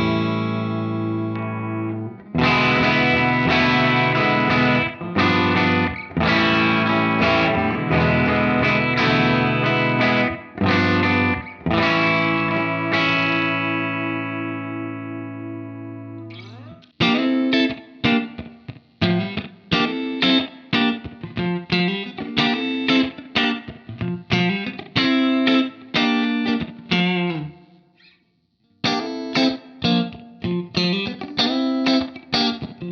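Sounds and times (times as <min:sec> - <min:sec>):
clean electric guitar strumming: 0:00.0 - 0:28.2, 0:28.8 - 0:32.9.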